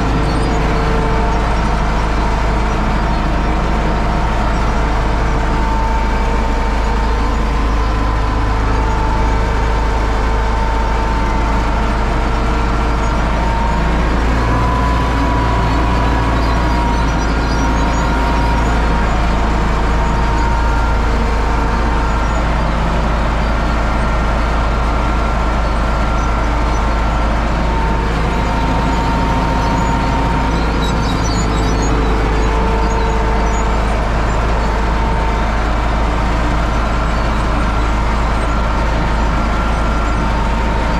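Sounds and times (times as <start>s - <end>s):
faint wavering whine: 0.0s - 40.9s
tractor diesel engine drone: 0.0s - 40.9s.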